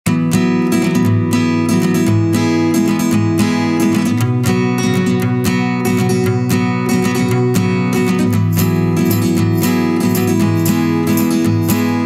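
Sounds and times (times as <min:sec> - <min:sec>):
strummed acoustic guitar music: 0:00.0 - 0:12.0.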